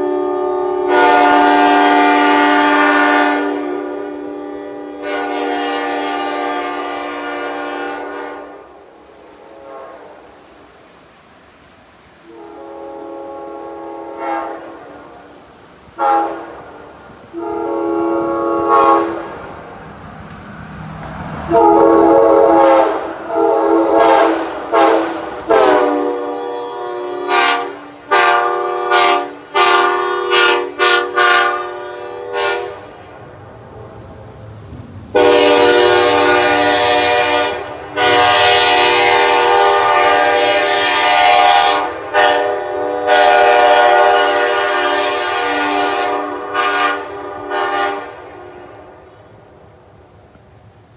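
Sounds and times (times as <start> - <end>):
locomotive air horn blasts: 0.0 - 10.6, 12.2 - 19.8, 21.5 - 33.1, 35.1 - 49.3.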